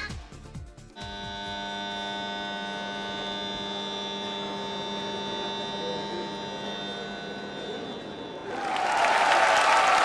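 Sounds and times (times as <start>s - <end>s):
steady electrical hum: 1.0s - 10.0s.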